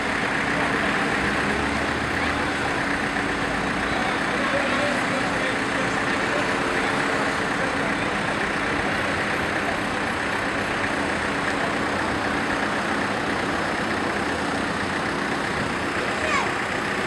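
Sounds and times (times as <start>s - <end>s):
cars passing: 0.0s - 17.0s
engine idling: 0.0s - 17.0s.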